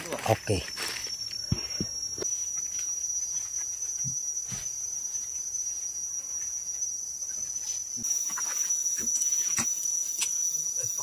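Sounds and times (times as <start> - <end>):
insects shrill drone: 0.0 - 11.0.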